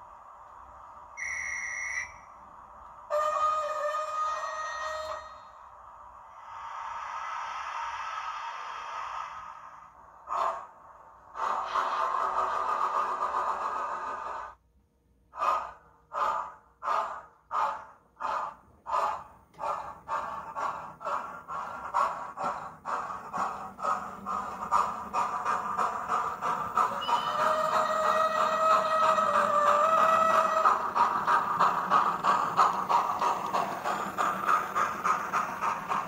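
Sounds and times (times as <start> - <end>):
steam hissing: 0.0 - 14.6, 15.4 - 36.0
steam locomotive exhaust chuffs: 0.0 - 14.6, 15.3 - 36.0.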